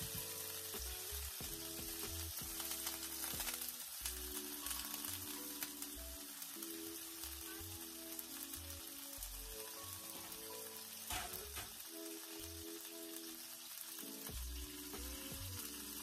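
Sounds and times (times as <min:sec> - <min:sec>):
food sizzling in pan: 0:00.0 - 0:16.0
slow background music: 0:00.0 - 0:16.0.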